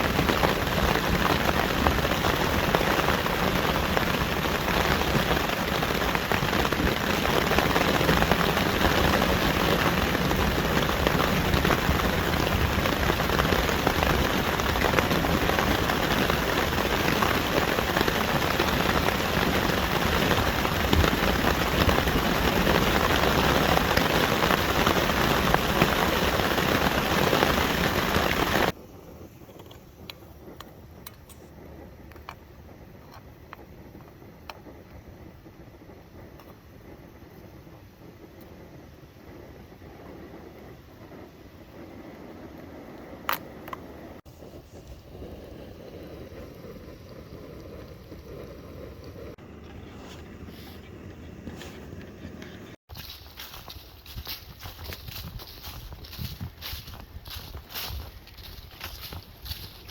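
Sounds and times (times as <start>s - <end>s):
steady rain falling: 0.0s - 28.8s, 32.1s - 49.4s, 52.4s - 59.9s.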